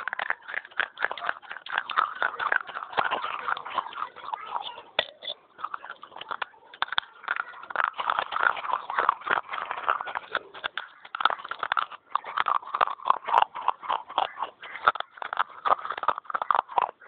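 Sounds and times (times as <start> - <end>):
clay pot being chewed: 0.0 - 17.0.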